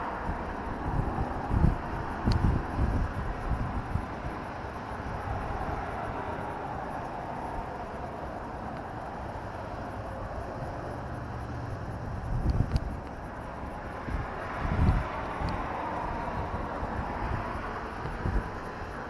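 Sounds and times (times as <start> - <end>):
low wind gusts: 0.0 - 19.0
road and wind noise: 0.0 - 19.0.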